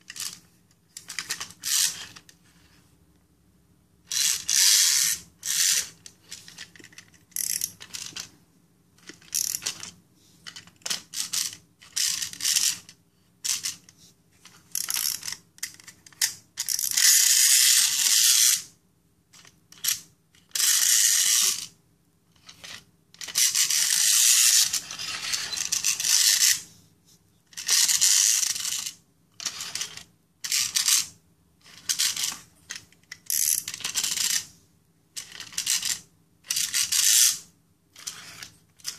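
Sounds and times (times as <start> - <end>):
wind-up toy ratcheting clicks: 0.0 - 0.4, 1.0 - 2.3, 4.1 - 8.3, 9.0 - 9.9, 10.5 - 13.9, 14.7 - 18.7, 19.4 - 21.8, 22.4 - 26.6, 27.5 - 34.5, 35.2 - 38.9.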